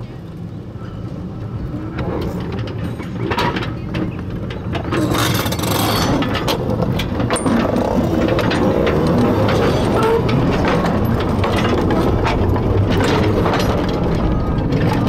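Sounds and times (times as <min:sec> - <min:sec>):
small train rumbling on track: 0:00.0 - 0:15.0
wheels clicking and knocking: 0:00.0 - 0:15.0.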